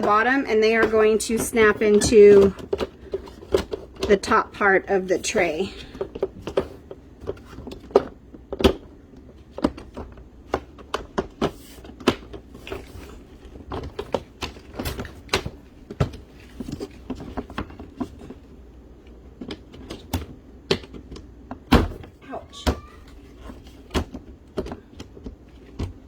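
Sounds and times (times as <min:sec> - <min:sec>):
plastic parts knocking and clicking: 0:00.0 - 0:04.4, 0:05.9 - 0:26.0.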